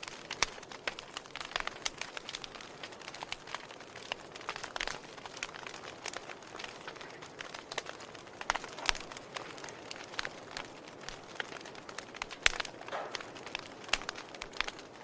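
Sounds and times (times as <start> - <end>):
fire crackling and popping: 0.0 - 15.0
low steady hiss: 0.0 - 15.0.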